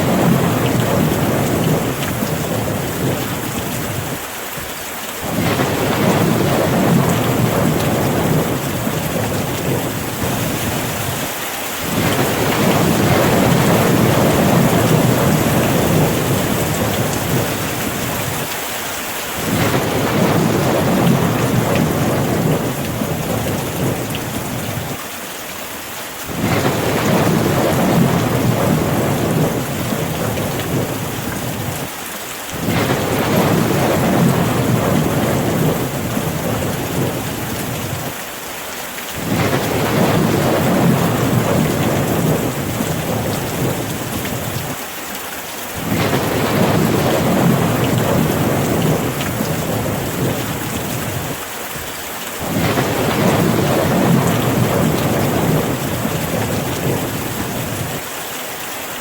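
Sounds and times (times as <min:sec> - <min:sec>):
thunder rumbling: 0:00.0 - 0:04.2, 0:05.2 - 0:18.5, 0:19.4 - 0:25.0, 0:26.3 - 0:31.9, 0:32.6 - 0:38.2, 0:39.2 - 0:44.8, 0:45.8 - 0:51.4, 0:52.4 - 0:58.0
steady rain: 0:00.0 - 0:59.0.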